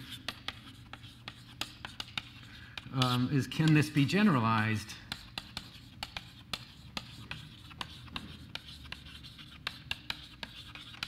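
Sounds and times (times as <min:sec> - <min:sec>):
chalk writing on blackboard: 0:00.0 - 0:11.0.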